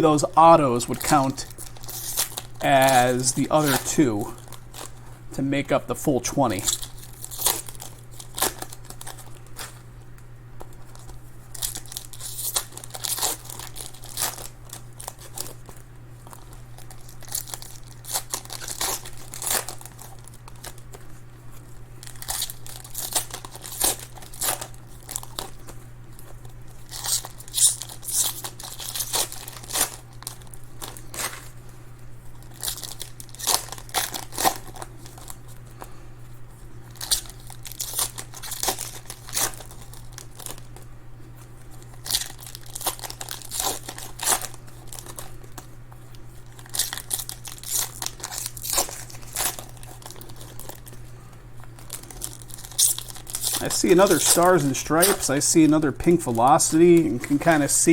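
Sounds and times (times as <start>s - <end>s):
wrappers crinkling and tearing: 0.0s - 5.1s, 6.4s - 57.9s.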